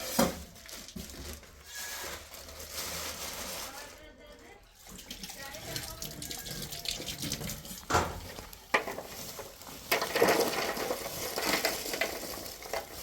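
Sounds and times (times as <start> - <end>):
pots and utensils clattering: 0.0 - 3.6, 4.8 - 13.0.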